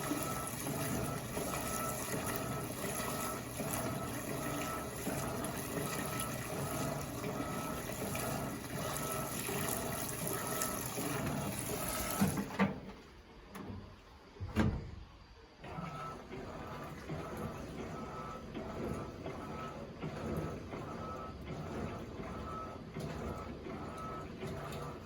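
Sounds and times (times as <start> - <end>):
washing machine water rushing: 0.0 - 14.4, 15.2 - 25.0.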